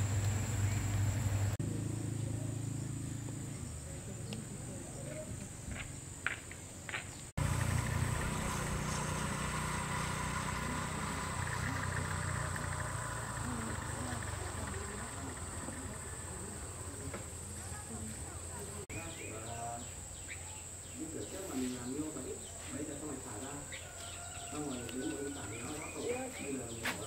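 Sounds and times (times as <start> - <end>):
insects shrilling drone: 0.0 - 6.3, 7.4 - 27.0.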